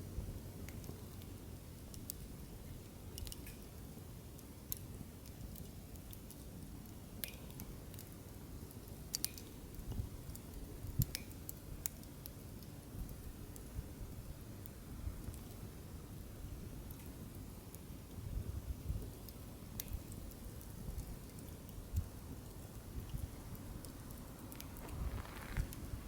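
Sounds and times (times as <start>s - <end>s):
low noise of burning logs: 0.0s - 26.0s
wood fire crackling and popping: 0.6s - 26.0s.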